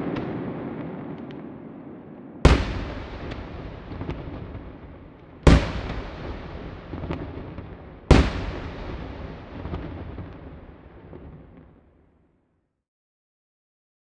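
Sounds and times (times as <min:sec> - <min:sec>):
fireworks exploding: 0:00.0 - 0:12.1
rolling echo: 0:00.0 - 0:12.2.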